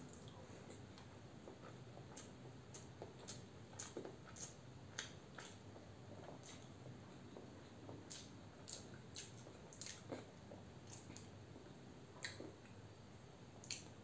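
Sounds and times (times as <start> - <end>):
wet chewing mouth sounds: 0.0 - 12.8, 13.6 - 14.0.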